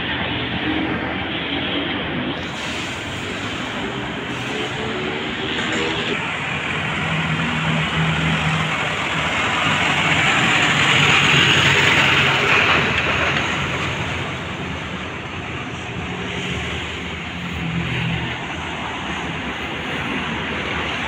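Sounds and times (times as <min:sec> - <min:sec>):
bus engines running: 0:00.0 - 0:21.0
road and traffic noise: 0:00.0 - 0:21.0.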